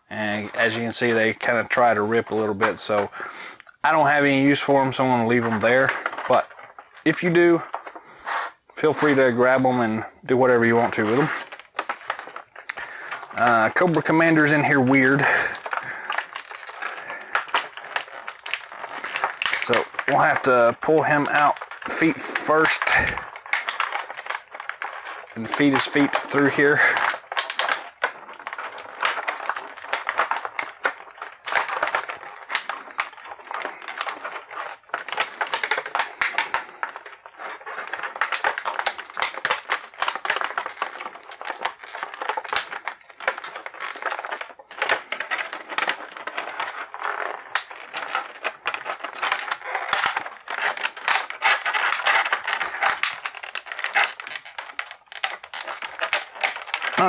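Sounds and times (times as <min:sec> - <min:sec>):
plastic blister tray crinkling: 0:00.0 - 0:57.0.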